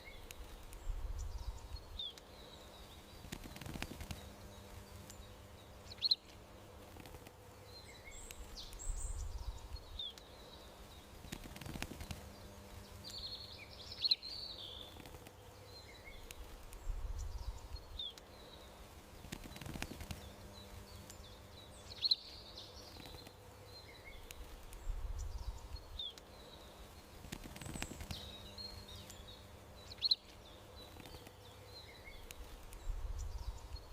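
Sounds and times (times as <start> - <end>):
faint steady hum: 0.0 - 33.9
small birds chirping: 0.0 - 33.9.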